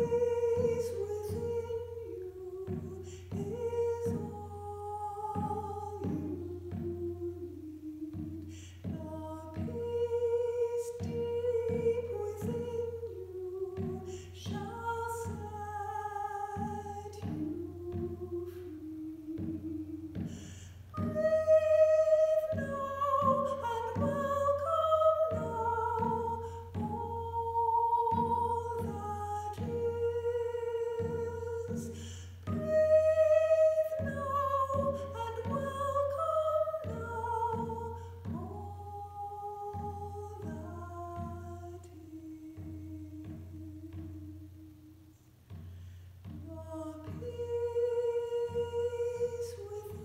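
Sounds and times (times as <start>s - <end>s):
woman chanting: 0.0s - 20.2s, 21.0s - 44.4s, 46.5s - 50.0s
frame drum beating: 0.0s - 50.0s.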